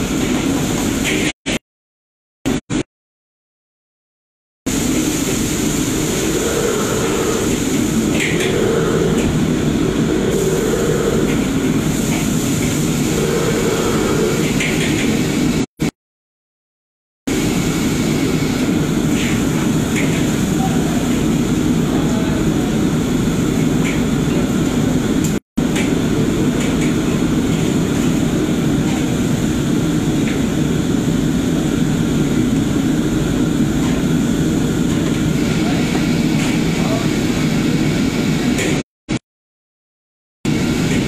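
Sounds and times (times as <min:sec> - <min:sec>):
gas burners and exhaust fan rushing: 0:00.0 - 0:01.6, 0:04.7 - 0:15.7, 0:17.3 - 0:39.2, 0:40.5 - 0:41.0.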